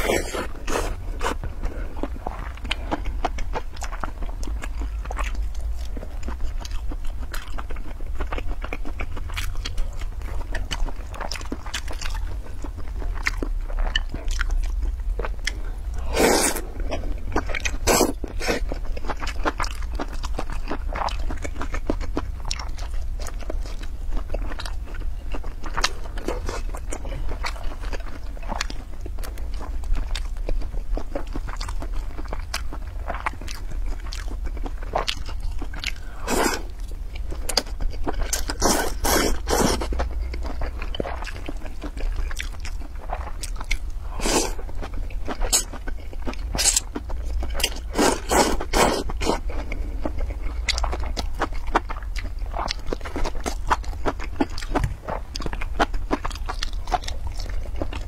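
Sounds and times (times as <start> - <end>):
chewing and biting: 0.0 - 58.0.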